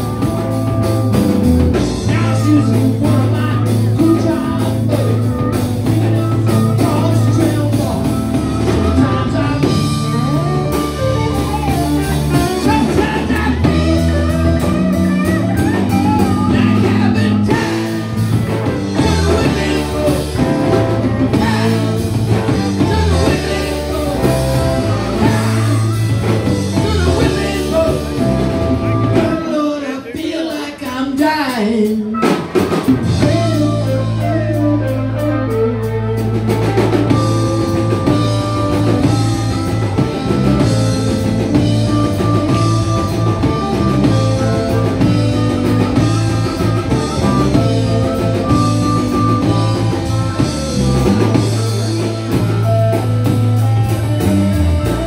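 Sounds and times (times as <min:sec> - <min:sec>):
electric guitar bending notes: 0:00.0 - 0:30.1, 0:32.0 - 0:55.0
live rock band playing: 0:00.0 - 0:55.0
person singing: 0:01.7 - 0:53.7.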